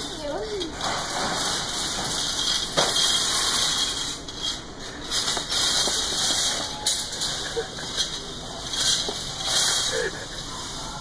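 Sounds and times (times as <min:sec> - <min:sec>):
shopping cart casters rattling: 0:00.0 - 0:11.0.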